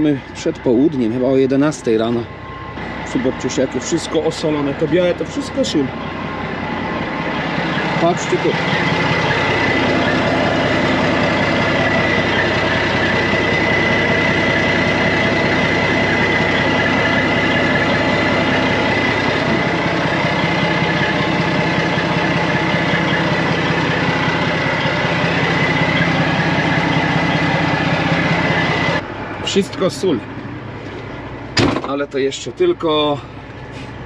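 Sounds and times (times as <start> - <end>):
constant high whine: 0.0 - 34.0
diesel engine idling: 0.0 - 34.0.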